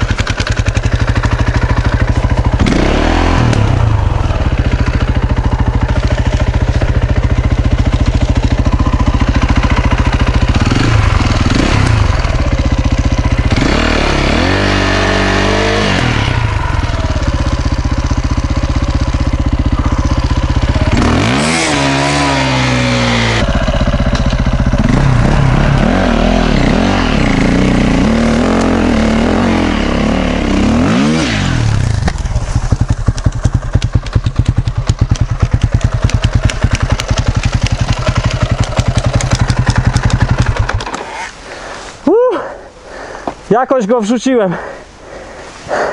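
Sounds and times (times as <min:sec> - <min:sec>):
motorcycle engine revving under load: 0:00.0 - 0:41.8.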